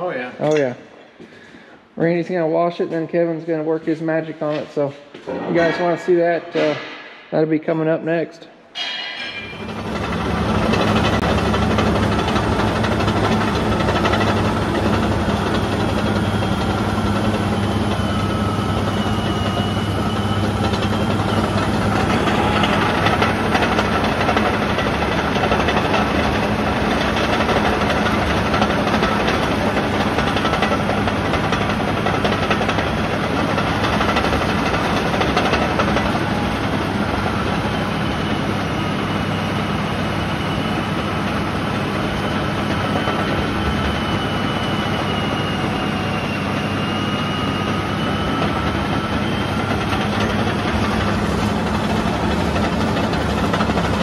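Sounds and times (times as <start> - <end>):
diesel engine running: 9.3 - 54.0.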